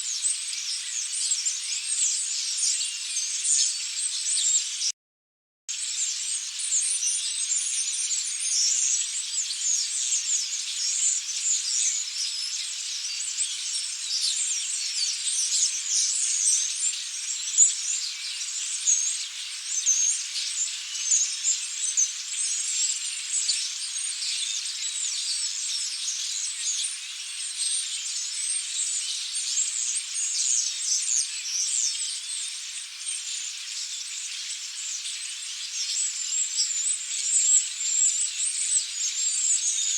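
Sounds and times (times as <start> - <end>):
flock of starlings chattering: 5.8 - 39.9.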